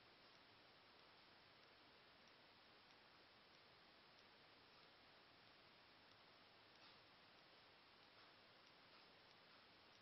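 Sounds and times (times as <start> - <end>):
very faint regular ticks: 0.0 - 10.0.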